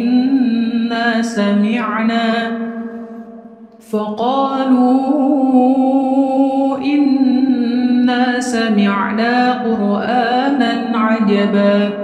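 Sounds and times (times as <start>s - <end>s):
person chanting recitation: 0.0s - 2.6s, 3.8s - 12.0s.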